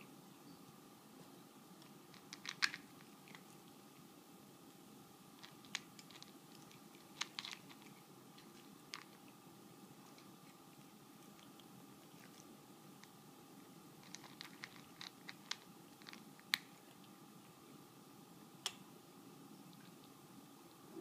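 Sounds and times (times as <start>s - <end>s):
cats chewing: 1.6s - 21.0s.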